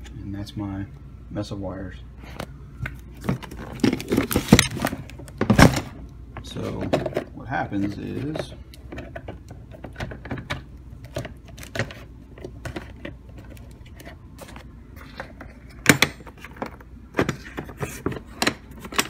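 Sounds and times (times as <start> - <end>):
plastic boxes clicking and rattling: 3.2 - 19.0.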